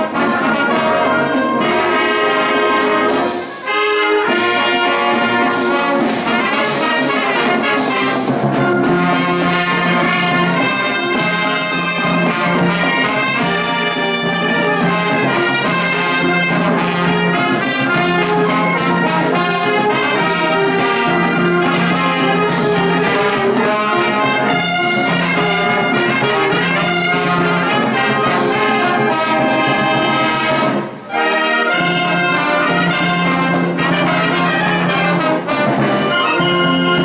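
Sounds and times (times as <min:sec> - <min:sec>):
wind band playing a march: 0:00.0 - 0:37.0.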